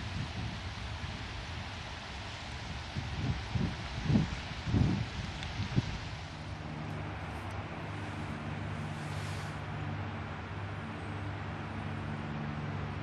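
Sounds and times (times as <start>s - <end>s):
constant hiss: 0.0s - 13.0s
low engine hum: 0.0s - 13.0s.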